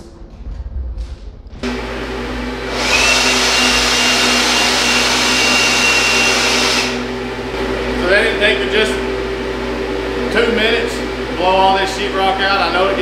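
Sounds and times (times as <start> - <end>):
leaf blower high whine: 1.6 - 13.0.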